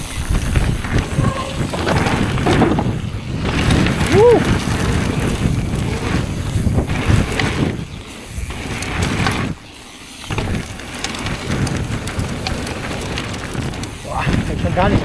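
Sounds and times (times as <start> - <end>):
wind buffeting microphone: 0.0 - 9.6, 10.3 - 15.0
bike clicks and rattles: 0.0 - 15.0
tyres rumbling: 0.0 - 15.0.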